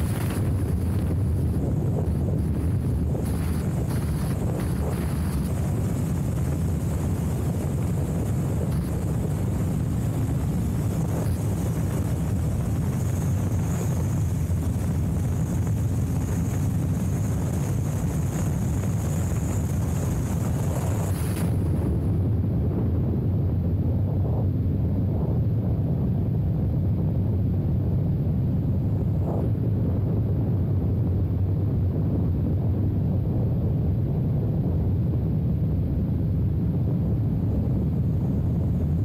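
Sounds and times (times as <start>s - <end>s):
motorcycle engine drone: 0.0s - 39.0s
wind rush on microphone: 0.0s - 39.0s.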